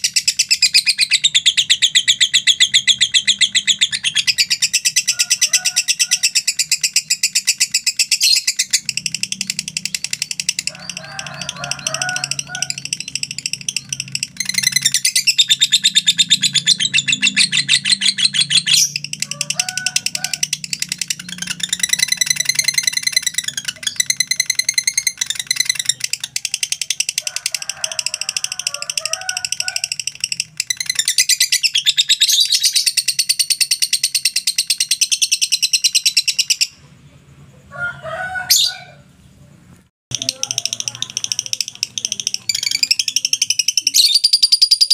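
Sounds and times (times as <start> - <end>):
bird chattering trill: 0.0 - 36.9, 40.1 - 44.9.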